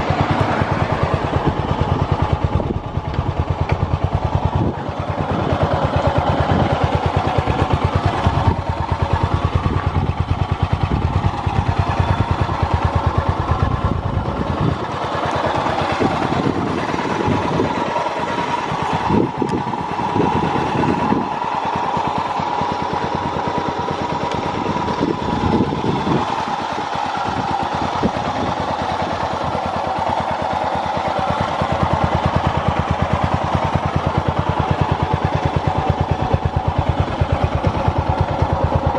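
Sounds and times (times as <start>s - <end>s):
motorcycle engine pulsing: 0.0s - 38.9s.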